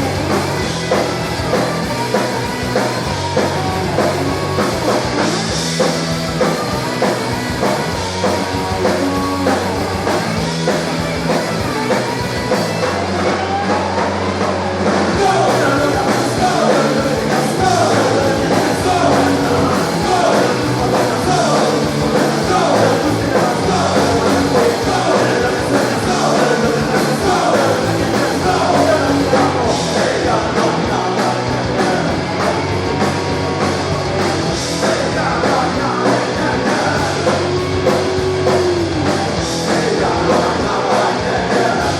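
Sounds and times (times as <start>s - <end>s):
live punk rock band: 0.0s - 41.9s
melodic guitar lead line: 0.0s - 41.9s.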